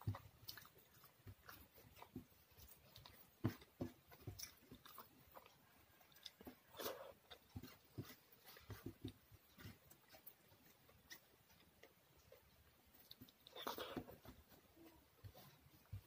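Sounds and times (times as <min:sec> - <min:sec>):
soft wet chewing: 0:00.0 - 0:16.0.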